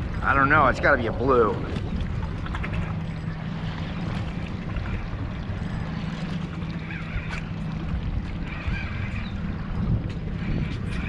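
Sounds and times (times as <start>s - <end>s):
boat motor humming: 0.0s - 11.0s
water noise: 0.0s - 11.0s
wind on microphone: 0.0s - 11.0s.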